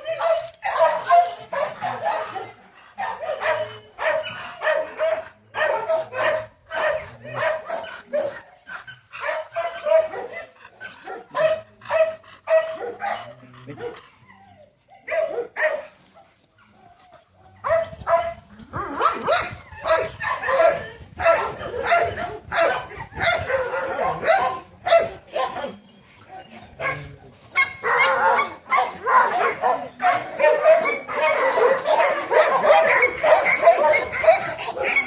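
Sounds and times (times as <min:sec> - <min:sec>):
dog barking and yipping: 0:00.0 - 0:14.0, 0:15.0 - 0:15.9, 0:17.6 - 0:25.8, 0:27.6 - 0:35.0.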